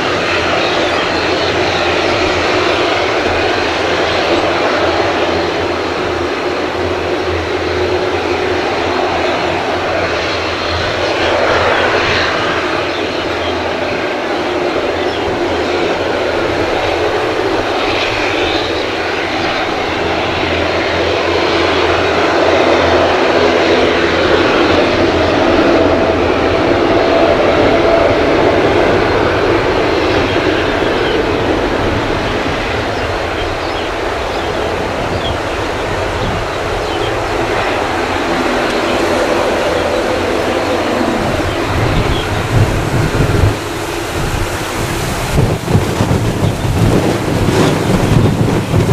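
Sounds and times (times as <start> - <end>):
airliner jet engines: 0.0 - 48.9.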